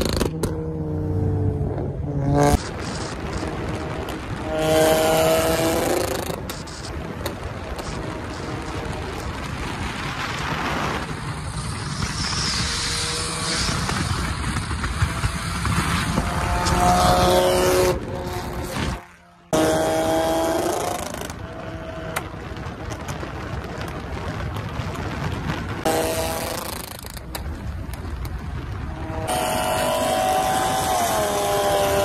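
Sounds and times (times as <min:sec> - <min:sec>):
car exhaust while driving: 0:00.0 - 0:32.0
road and wind noise: 0:00.0 - 0:32.0.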